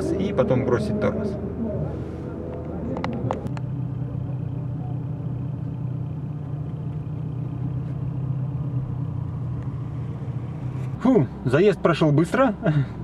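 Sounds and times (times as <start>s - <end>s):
vehicle rumble inside car: 0.0s - 13.0s.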